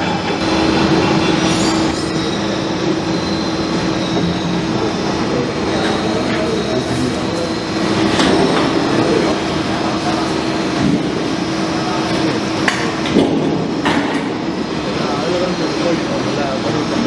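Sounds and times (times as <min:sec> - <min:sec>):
roll-forming machine humming: 0:00.0 - 0:17.0.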